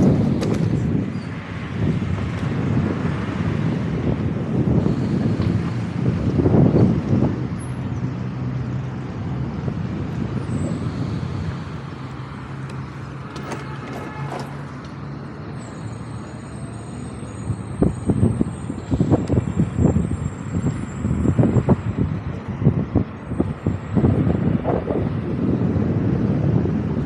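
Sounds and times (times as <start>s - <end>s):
gusts of wind buffeting: 0.0s - 27.0s
road and traffic noise: 0.0s - 27.0s
wind rushing over microphone: 0.0s - 27.0s.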